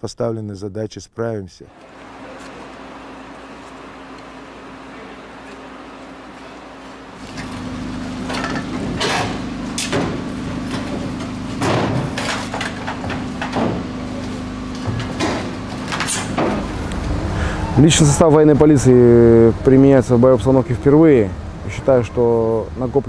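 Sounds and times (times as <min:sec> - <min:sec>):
engine hum: 0:01.7 - 0:23.0
gas cylinders clanking: 0:01.7 - 0:23.0.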